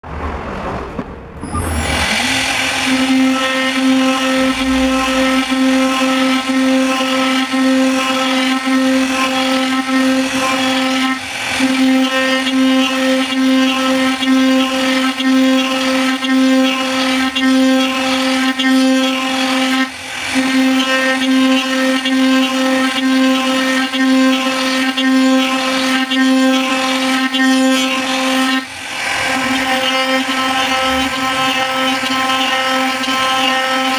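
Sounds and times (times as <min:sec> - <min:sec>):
power tool motor humming: 0:01.4 - 0:33.9.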